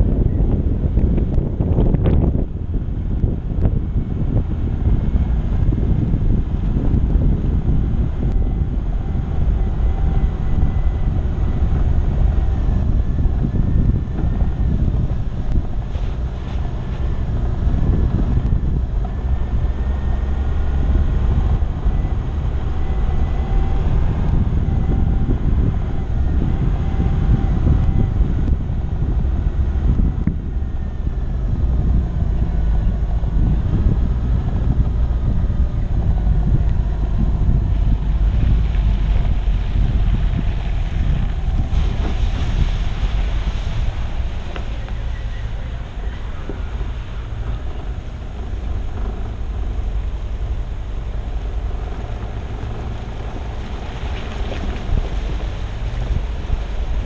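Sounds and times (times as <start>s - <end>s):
vehicle engine rumble: 0.0s - 57.0s
wind on microphone: 0.0s - 57.0s
faint wavering whine: 1.8s - 53.7s.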